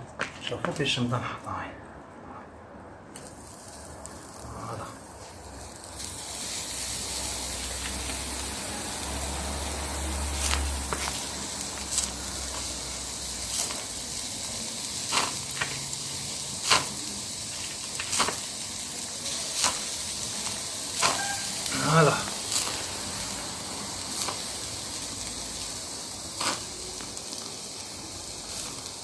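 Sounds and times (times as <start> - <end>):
crackles and pops: 3.0 - 29.0
meat skewers sizzling over embers: 3.0 - 29.0.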